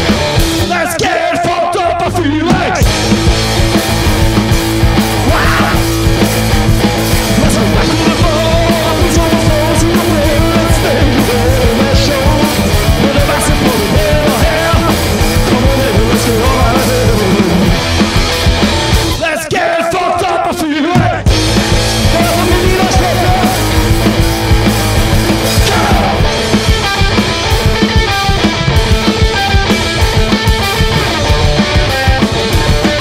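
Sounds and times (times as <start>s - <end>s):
loud punk rock band playing: 0.0s - 33.0s.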